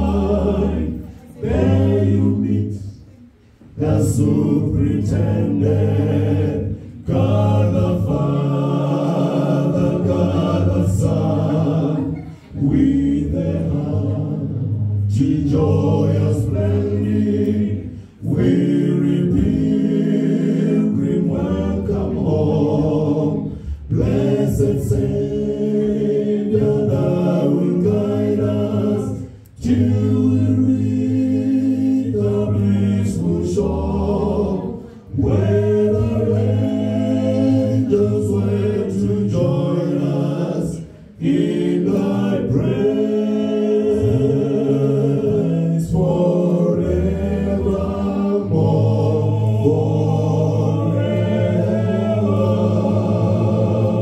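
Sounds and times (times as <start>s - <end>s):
male vocal group singing hymn: 0.0s - 54.0s.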